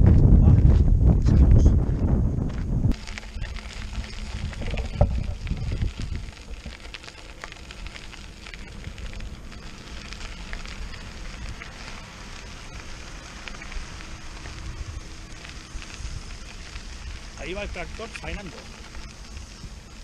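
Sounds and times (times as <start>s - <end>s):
wind rumbling on microphone: 0.0s - 20.0s
tyre crunching on gravel: 2.4s - 20.0s.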